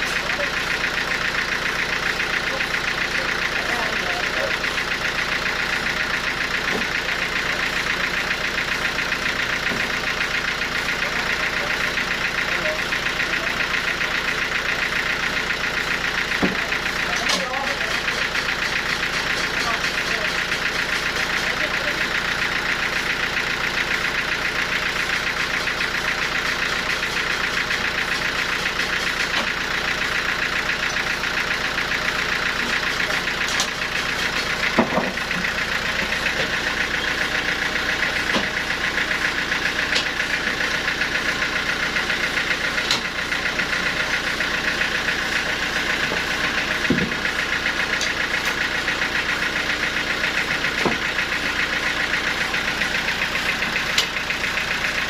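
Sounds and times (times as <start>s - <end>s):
sawmill machinery sawing log: 0.0s - 55.0s.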